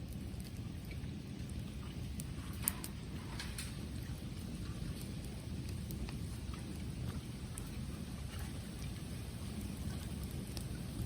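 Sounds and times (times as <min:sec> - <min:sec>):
bonfire burning rush: 0:00.0 - 0:11.0
faint fire crackles: 0:00.0 - 0:11.0.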